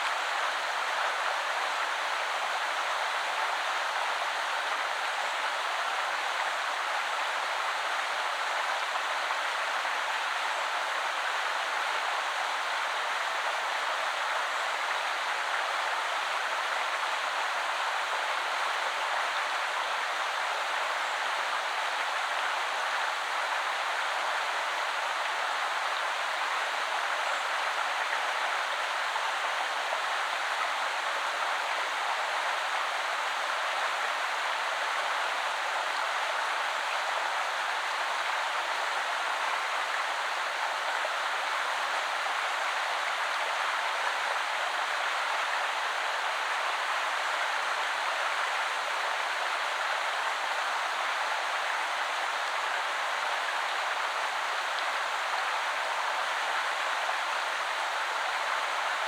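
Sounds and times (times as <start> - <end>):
river flowing over stones: 0.2 - 59.0.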